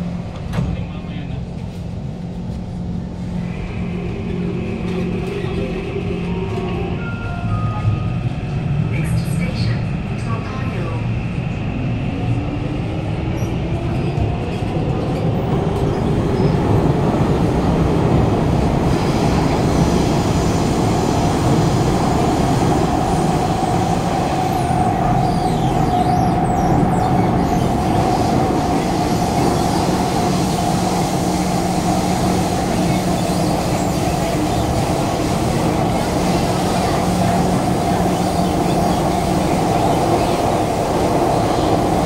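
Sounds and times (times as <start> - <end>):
wheels rumbling on track: 0.0 - 42.0.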